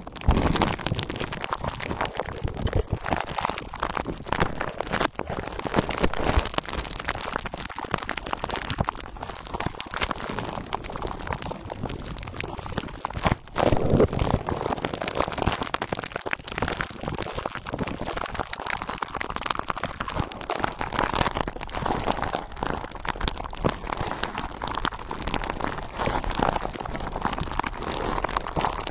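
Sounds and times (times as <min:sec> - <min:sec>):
plastic wrap crinkling: 0:00.0 - 0:28.9.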